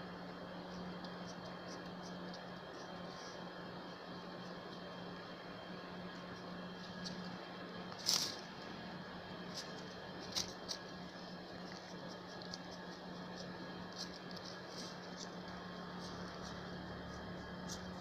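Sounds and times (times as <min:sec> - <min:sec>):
faint hiss and hum: 0:00.0 - 0:18.0.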